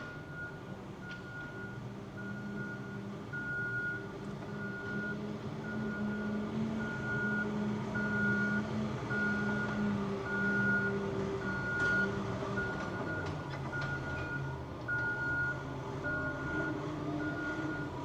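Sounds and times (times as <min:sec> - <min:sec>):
reversing alarm beeping: 0:00.0 - 0:18.0.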